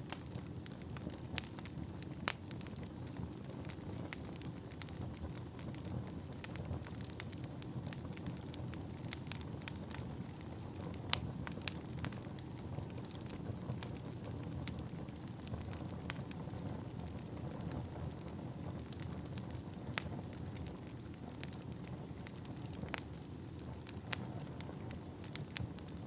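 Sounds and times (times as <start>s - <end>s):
fire crackling and popping: 0.0s - 26.0s
fire flames rumbling: 0.0s - 26.0s.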